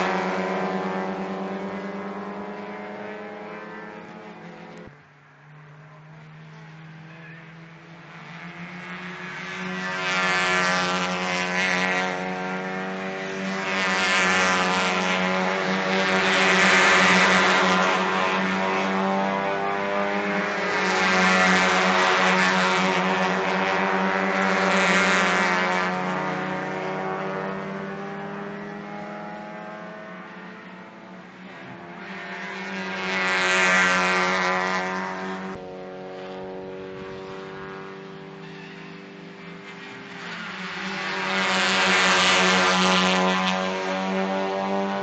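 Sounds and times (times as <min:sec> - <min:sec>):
race cars passing at high revs: 0:00.0 - 0:45.0.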